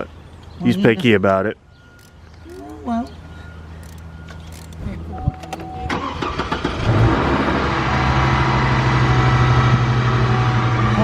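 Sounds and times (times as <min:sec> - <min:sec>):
truck engine cranking and idling: 0:01.8 - 0:11.0.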